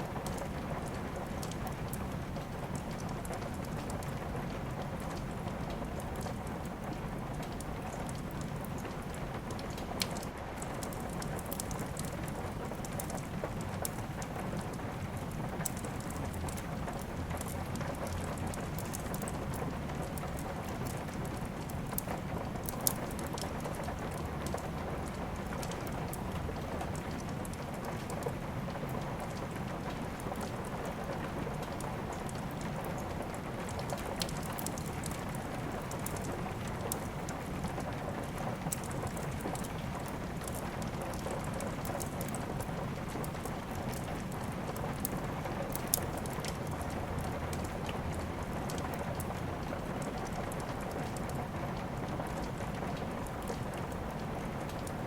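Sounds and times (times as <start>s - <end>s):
steady rain: 0.0s - 55.0s
wood fire crackling and popping: 0.0s - 55.0s.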